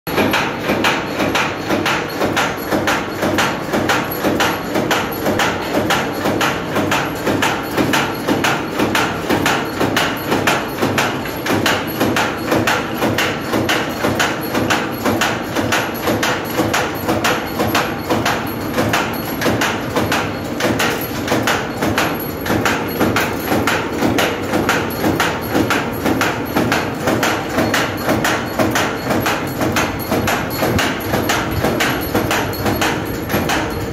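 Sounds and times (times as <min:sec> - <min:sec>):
wire cutting machine knocking: 0:00.1 - 0:33.9.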